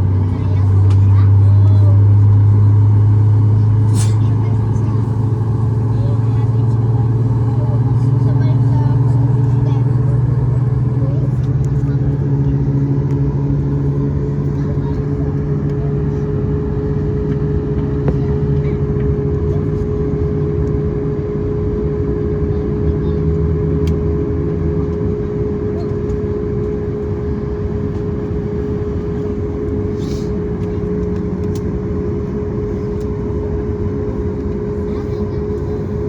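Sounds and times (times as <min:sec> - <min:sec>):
jet engine cabin rumble: 0:00.0 - 0:36.0.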